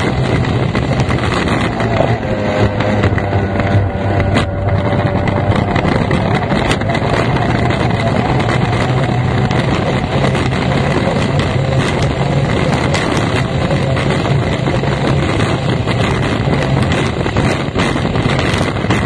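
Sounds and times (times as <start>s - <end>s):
outboard engine running hard: 0.0s - 19.0s
rush of wind and water: 0.0s - 19.0s.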